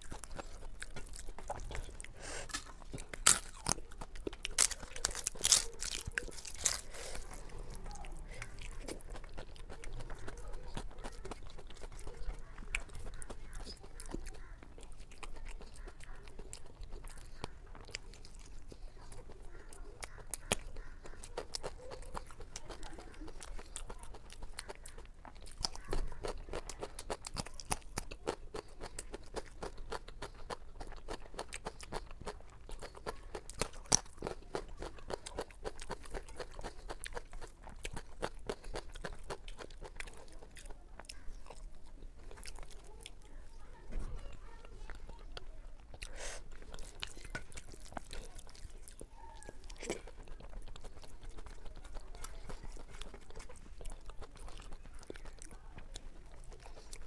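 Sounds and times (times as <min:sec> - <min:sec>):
crisp crunches of biting food: 0:00.0 - 0:43.6, 0:45.2 - 0:57.0
chewing with wet clicks: 0:00.0 - 0:57.0.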